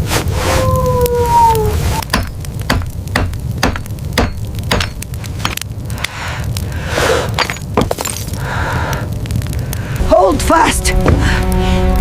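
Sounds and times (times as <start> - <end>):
steady low rumble: 2.0 - 12.0.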